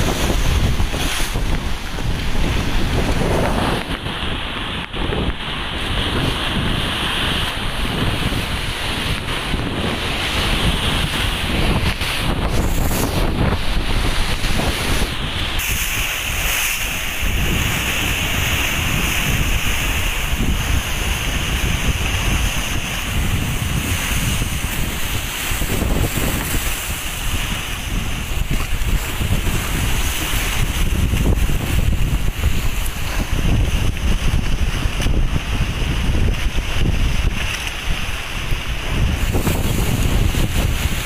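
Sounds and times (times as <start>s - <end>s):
waves on rough sea: 0.0s - 41.0s
wind buffeting microphone: 0.0s - 41.0s.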